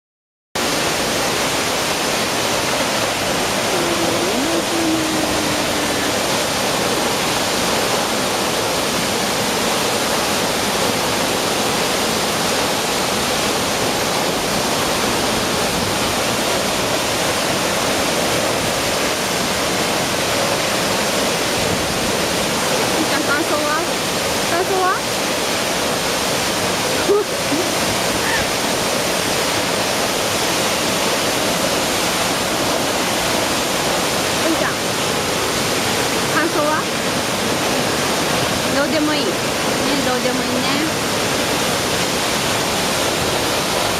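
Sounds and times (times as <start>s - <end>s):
waterfall rushing: 0.6s - 43.9s.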